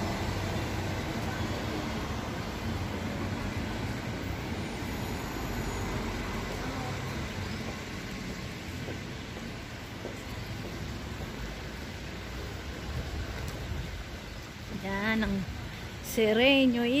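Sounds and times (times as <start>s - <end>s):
road vehicle engine and tyres rumble: 0.0s - 17.0s.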